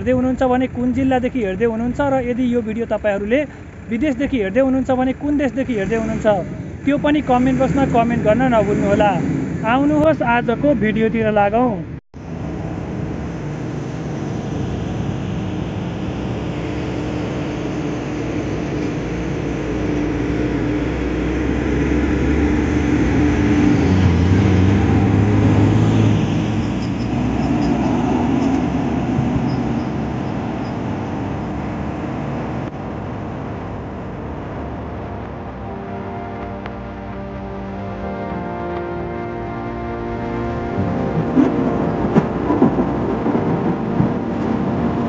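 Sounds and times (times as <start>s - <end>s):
heavy vehicle engine passing: 0.0s - 45.0s
road traffic: 0.0s - 45.0s.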